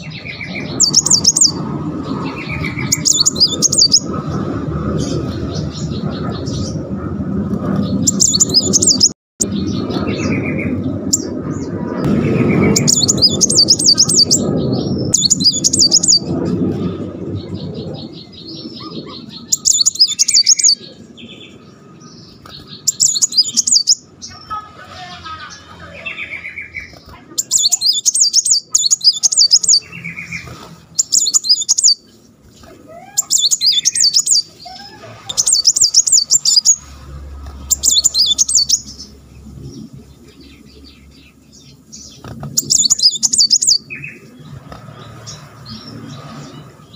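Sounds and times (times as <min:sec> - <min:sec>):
lower bird chirps: 0:00.0 - 0:06.9, 0:07.7 - 0:24.6, 0:25.9 - 0:46.9
low rushing noise: 0:00.0 - 0:27.1, 0:33.5 - 0:46.9
bird singing high rolling trills: 0:00.0 - 0:46.9.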